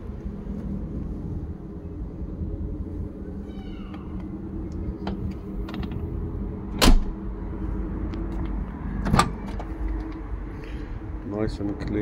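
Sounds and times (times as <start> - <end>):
faint hum: 0.0 - 12.0
low rumble: 0.0 - 12.0.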